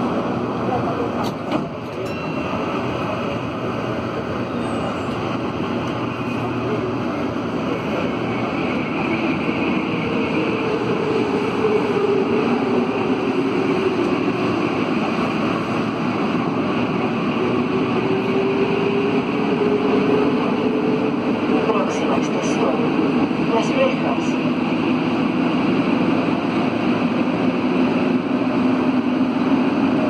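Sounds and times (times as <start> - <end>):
metro train rolling rumble: 0.0 - 30.0.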